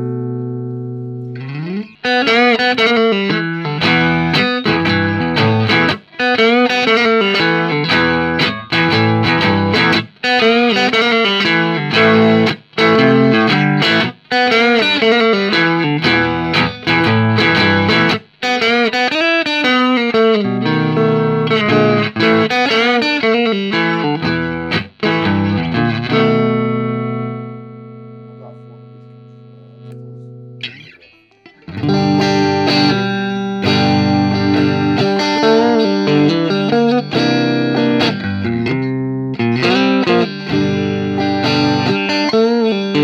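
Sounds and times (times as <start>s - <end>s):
electric guitar playing chords: 0.0s - 43.0s.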